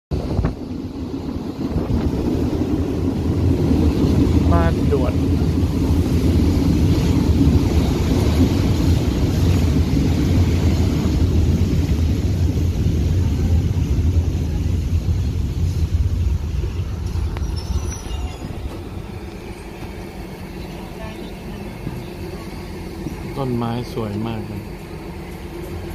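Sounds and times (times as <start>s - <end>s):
train rumbling: 0.1s - 25.9s.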